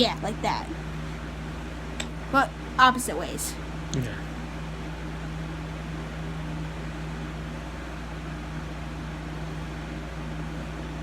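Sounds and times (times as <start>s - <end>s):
steady machine hum with hiss: 0.0s - 11.0s.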